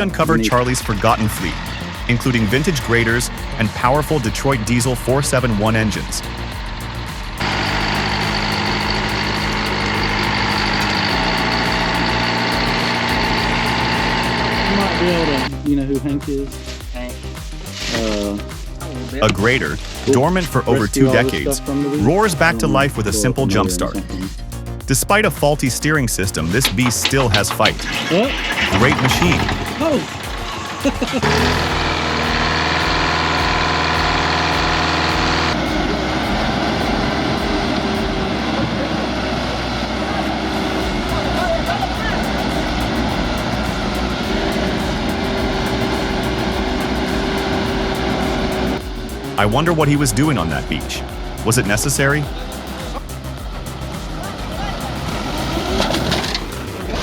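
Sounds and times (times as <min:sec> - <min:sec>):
rough noisy engine running: 0:00.0 - 0:15.7, 0:16.6 - 0:57.0
diesel engine idling: 0:00.0 - 0:57.0.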